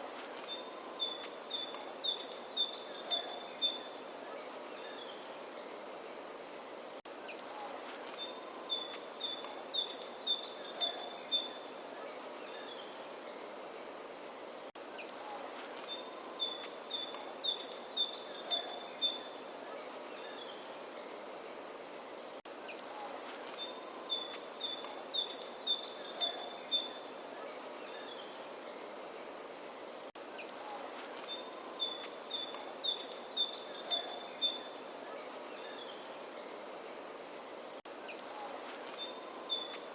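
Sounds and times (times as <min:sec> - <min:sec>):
songbird singing: 0:00.0 - 0:39.9
steady outdoor hiss: 0:00.0 - 0:39.9.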